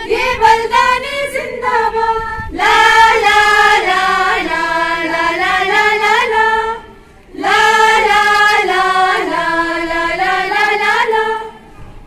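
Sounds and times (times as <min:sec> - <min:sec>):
women singing in unison: 0:00.0 - 0:11.7.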